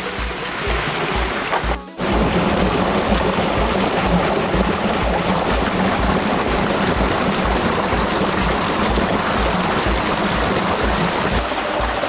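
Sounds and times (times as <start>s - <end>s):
background music beat: 0.0s - 12.0s
water gushing into pool: 0.0s - 12.0s.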